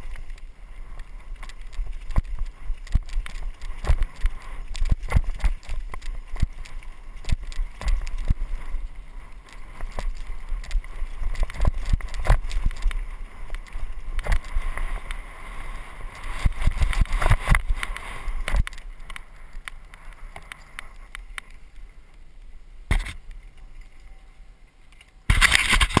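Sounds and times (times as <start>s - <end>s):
mountain bike rattling: 0.0s - 22.0s, 24.8s - 26.0s.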